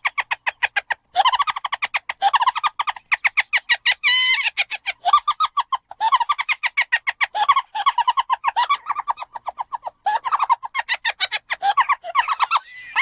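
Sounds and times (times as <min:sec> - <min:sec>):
high-pitched cartoon giggling: 0:00.0 - 0:13.0.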